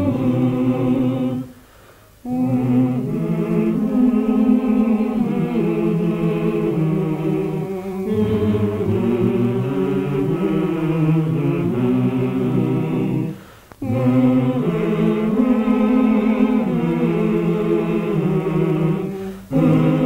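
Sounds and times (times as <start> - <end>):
choir singing low: 0.0 - 20.0.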